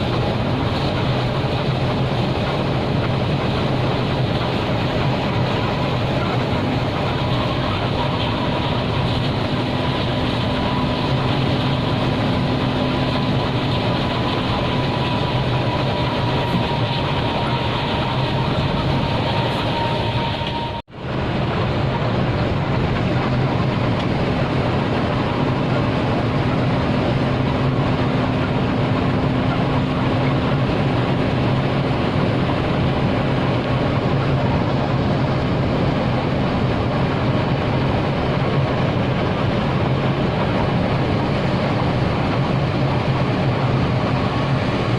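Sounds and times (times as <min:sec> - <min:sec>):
bus engine and road noise: 0:00.0 - 0:44.9.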